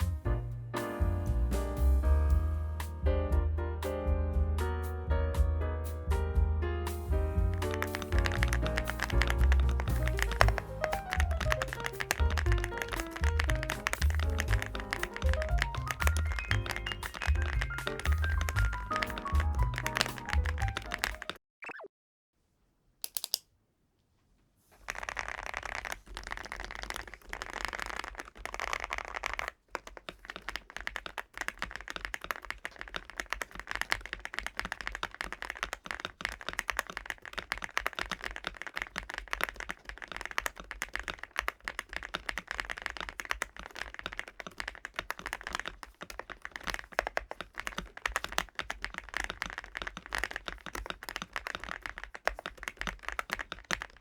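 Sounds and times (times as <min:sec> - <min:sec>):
mechanical keyboard typing: 0:07.5 - 0:21.4, 0:23.0 - 0:23.4, 0:24.8 - 0:54.0.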